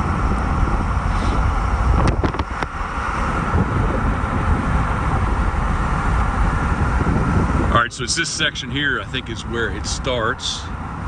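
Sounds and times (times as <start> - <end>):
tyre and engine rumble: 0.0 - 11.0.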